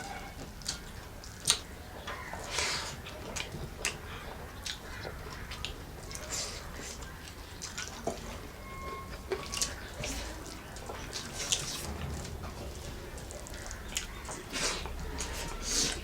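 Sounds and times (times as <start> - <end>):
chewing with smacks and slurps: 0.0 - 16.0.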